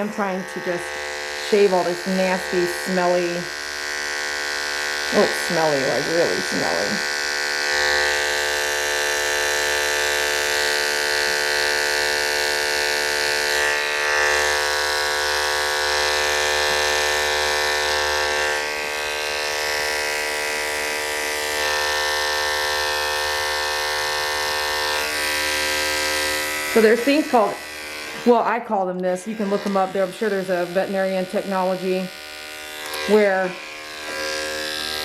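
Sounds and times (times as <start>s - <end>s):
electric hair clipper running: 0.0s - 35.0s.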